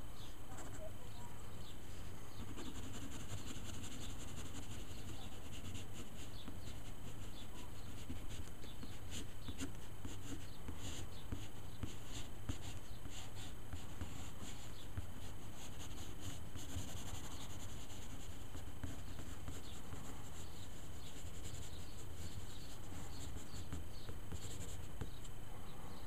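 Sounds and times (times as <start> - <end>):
pencil scratching on paper: 2.3 - 25.2.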